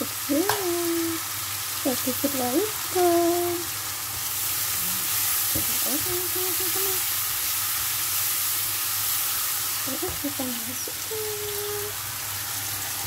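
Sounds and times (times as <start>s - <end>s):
mushrooms sizzling in a wok: 0.0s - 13.0s.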